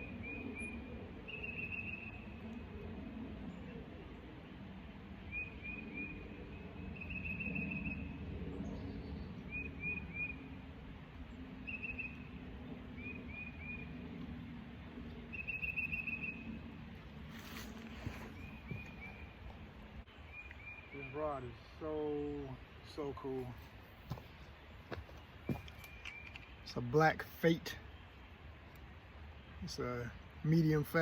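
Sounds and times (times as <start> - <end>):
low outdoor background: 0.0 - 31.0
songbird singing: 0.0 - 31.0.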